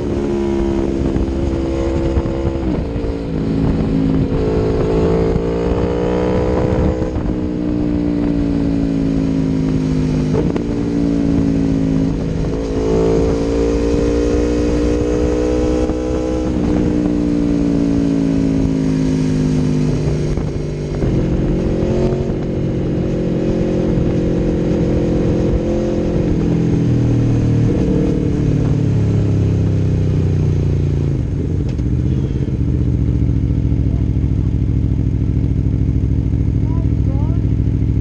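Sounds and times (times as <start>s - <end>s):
motorcycle engine shifting gears: 0.0s - 38.0s.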